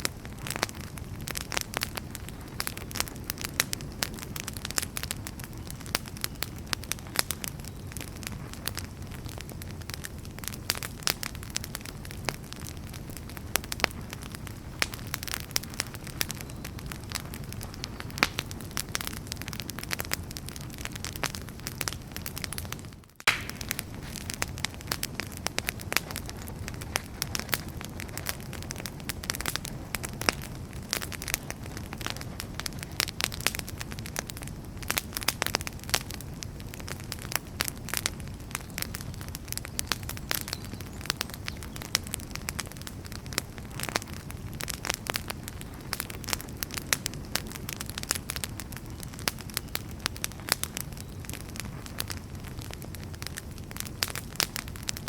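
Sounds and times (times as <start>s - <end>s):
firewood crackling and popping: 0.0s - 55.0s
flames rushing: 0.0s - 55.0s.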